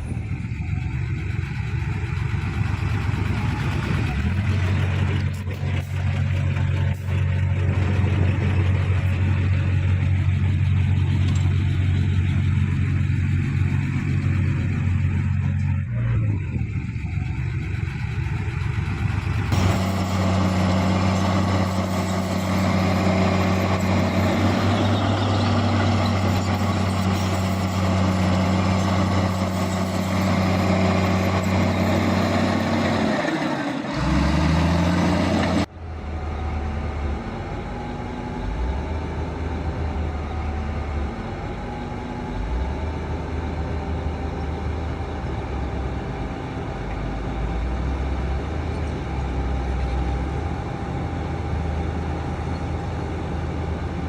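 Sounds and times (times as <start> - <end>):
diesel machinery engines droning: 0.0 - 54.0.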